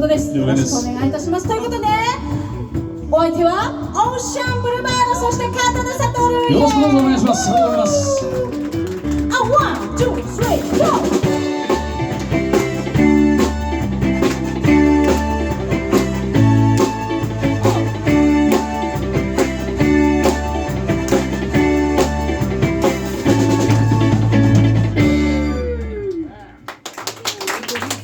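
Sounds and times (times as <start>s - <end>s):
drum kit: 0.0s - 26.3s
bass line: 0.0s - 26.5s
guitar: 0.0s - 26.8s.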